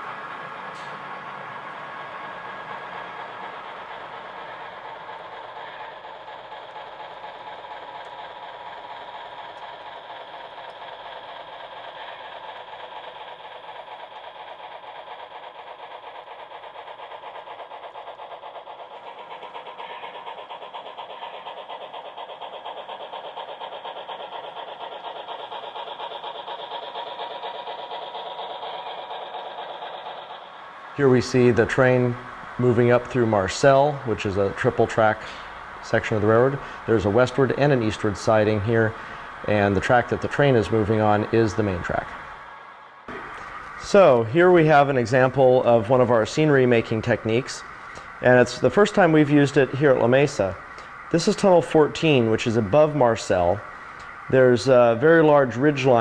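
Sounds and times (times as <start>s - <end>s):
model train running with clicking: 0.0s - 56.0s.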